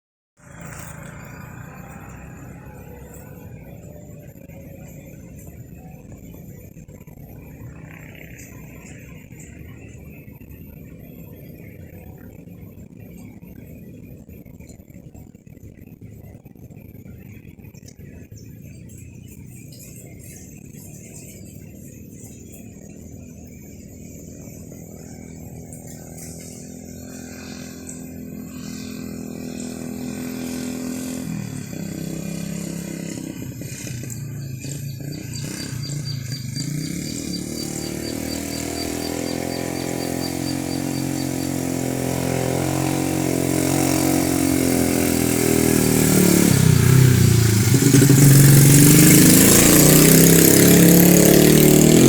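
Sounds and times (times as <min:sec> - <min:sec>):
vehicle engine approaching: 0:00.4 - 0:52.0.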